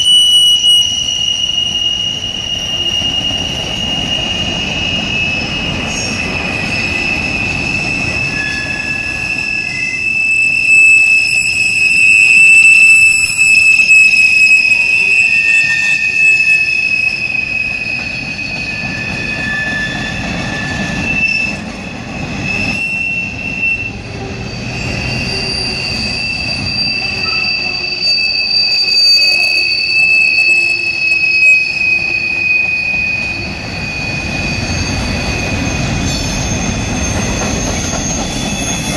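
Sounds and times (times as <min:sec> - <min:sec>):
low train rumble: 0:00.0 - 0:38.9
wheels squealing on rail: 0:00.0 - 0:38.9.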